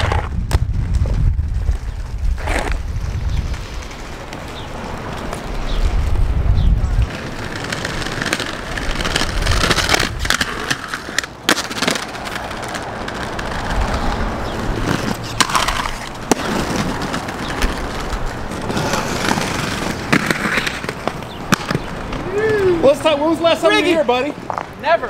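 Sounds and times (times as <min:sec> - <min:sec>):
skates clacking and scraping ledge: 0:00.0 - 0:00.3, 0:02.3 - 0:05.7, 0:07.0 - 0:25.0
skate wheels rolling on concrete: 0:00.0 - 0:25.0.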